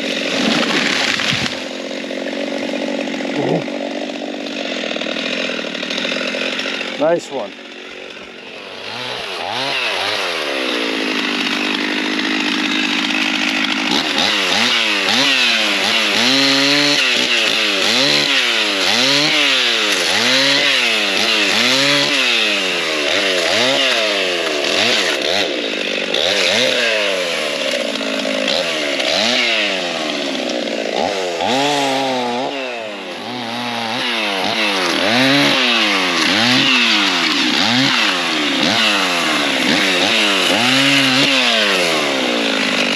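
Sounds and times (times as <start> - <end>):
chainsaw revving: 0.0 - 42.9.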